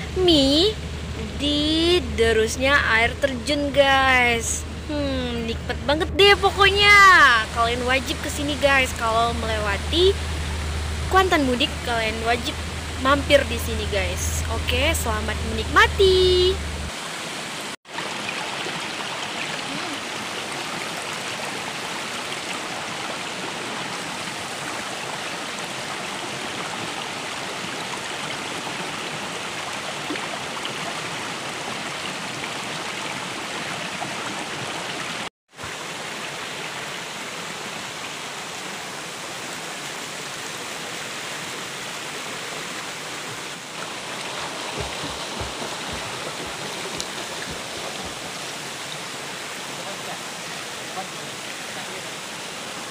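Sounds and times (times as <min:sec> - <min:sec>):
stream water rushing: 0:00.0 - 0:52.9.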